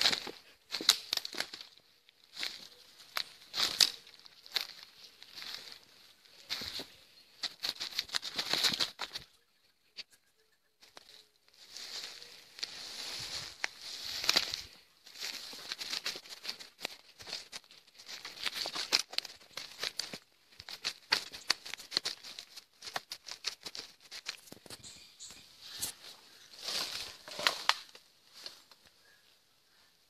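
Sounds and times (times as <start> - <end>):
footsteps crunching dry leaves: 0.0 - 9.3, 10.8 - 24.9, 25.5 - 28.7
leaves and stems rustling: 0.0 - 9.3, 10.8 - 29.1
twigs crackling: 0.0 - 30.0.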